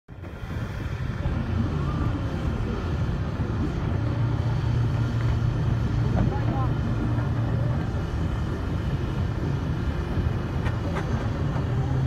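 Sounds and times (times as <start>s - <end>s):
steam traction engine rumbling: 0.1s - 12.0s.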